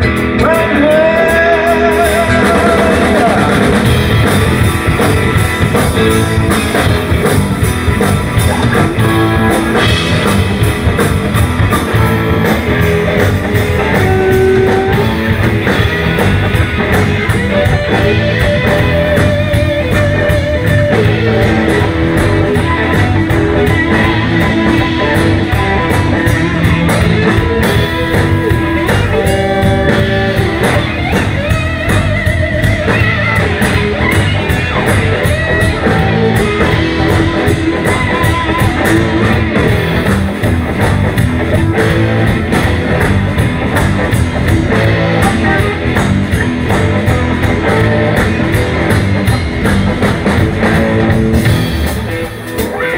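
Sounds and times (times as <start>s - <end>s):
electric blues band playing: 0.0s - 52.9s.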